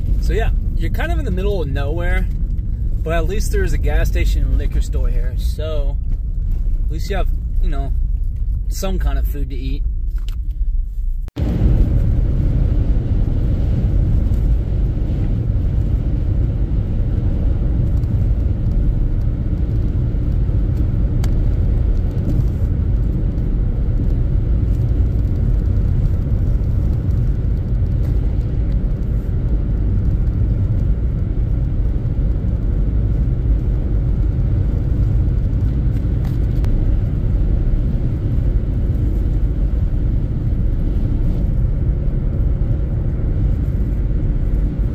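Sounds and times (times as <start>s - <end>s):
car road rumble from inside: 0.0s - 44.9s.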